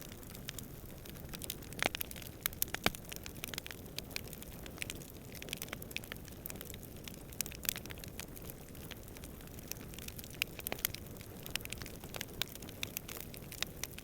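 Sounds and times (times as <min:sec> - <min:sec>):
campfire crackling and popping: 0:00.0 - 0:14.0
low rumble of flame: 0:00.0 - 0:14.0.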